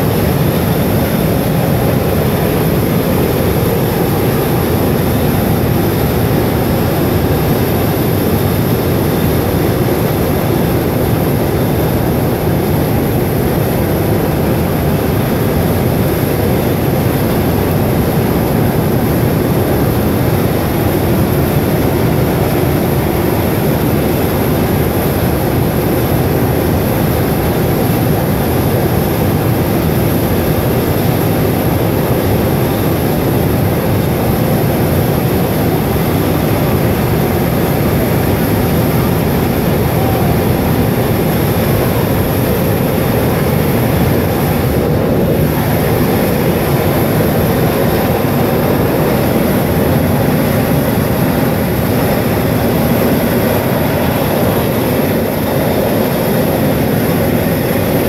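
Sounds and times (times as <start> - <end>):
steam venting loudly from pipe: 0.0 - 58.0.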